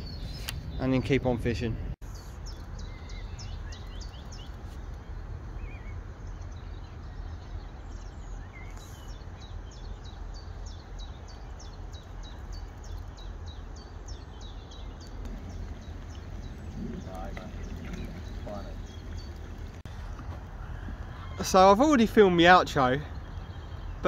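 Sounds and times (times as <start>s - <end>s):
songbird singing: 0.0s - 24.0s
low background rumble: 1.3s - 21.4s.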